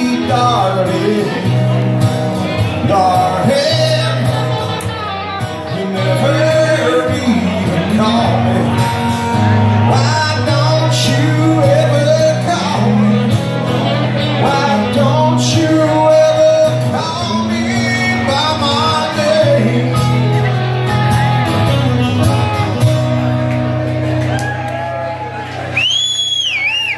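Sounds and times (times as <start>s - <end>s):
man singing: 0.0s - 22.9s
strummed acoustic guitar: 0.0s - 24.3s
electric guitar: 0.0s - 26.9s.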